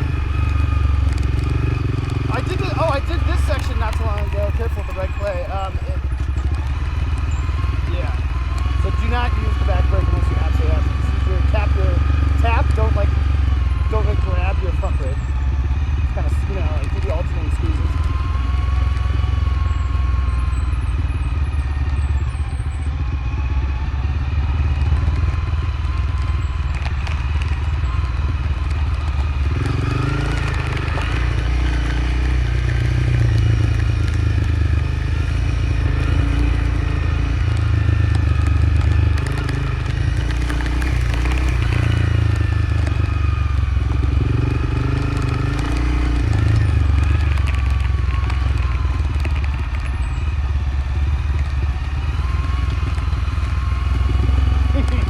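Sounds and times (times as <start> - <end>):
knocks and rattles from rough track: 0.0 - 23.5, 24.5 - 55.0
motorcycle engine running: 0.0 - 55.0.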